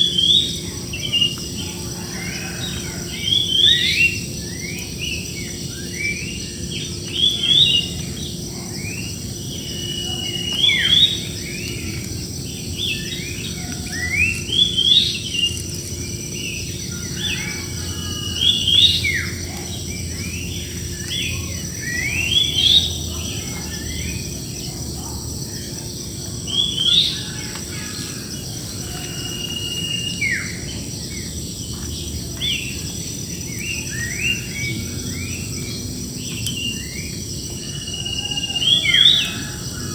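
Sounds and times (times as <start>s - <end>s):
high-pitched insect drone: 0.0s - 39.9s
wild birds singing and calling: 0.0s - 39.9s.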